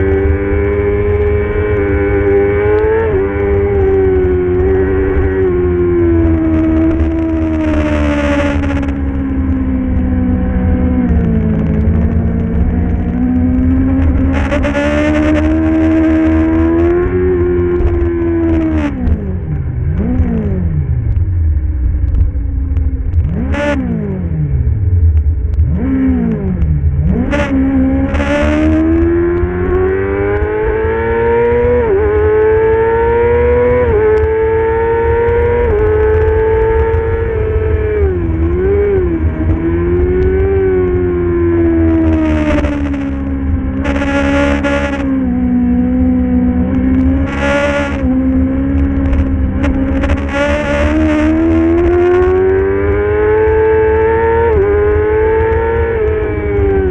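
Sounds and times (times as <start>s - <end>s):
motorcycle engine revving through gears: 0.0s - 56.9s.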